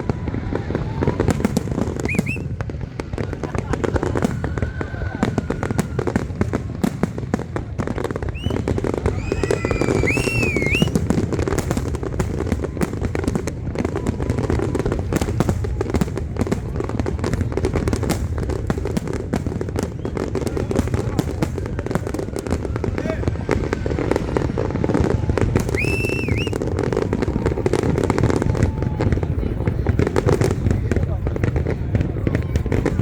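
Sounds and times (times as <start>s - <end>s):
firework whistles: 0.0s - 17.0s, 19.5s - 29.1s
fireworks crackling and banging: 0.0s - 33.0s.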